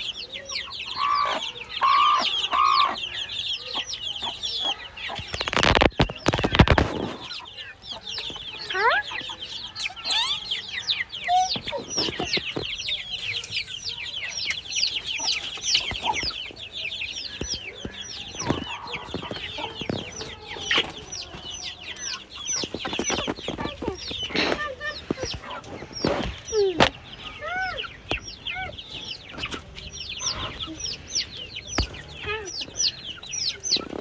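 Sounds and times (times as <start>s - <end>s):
chickens clucking: 0.0s - 34.0s
chickens peeping: 0.0s - 34.0s.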